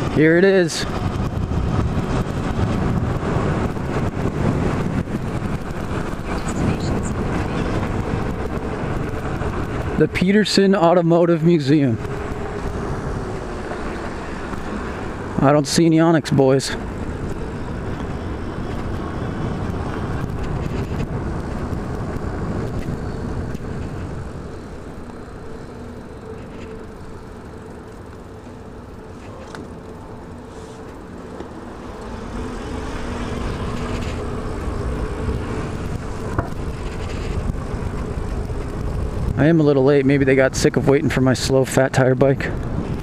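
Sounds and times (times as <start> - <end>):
city traffic rumble: 0.0 - 43.0.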